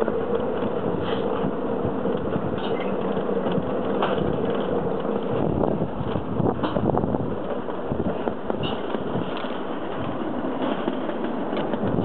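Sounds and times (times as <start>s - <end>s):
sled rolling down metal chute: 1.9s - 12.0s.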